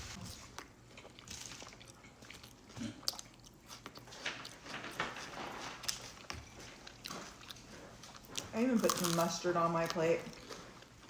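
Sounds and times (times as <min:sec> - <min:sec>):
chewing and biting food: 0:00.3 - 0:11.0.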